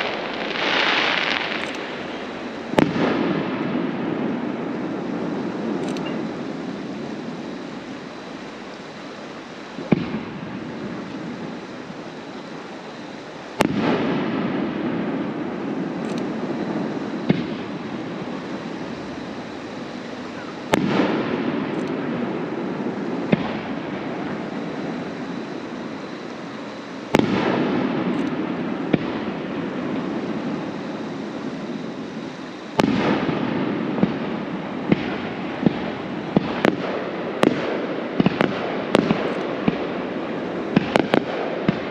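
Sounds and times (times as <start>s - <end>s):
fireworks bursting with echo: 0.0s - 41.9s
sharp firework cracks: 0.0s - 41.9s.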